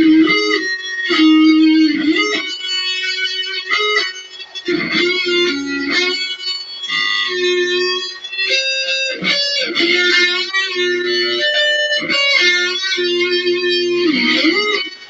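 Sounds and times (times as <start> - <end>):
electric guitar shredding: 0.0 - 15.0.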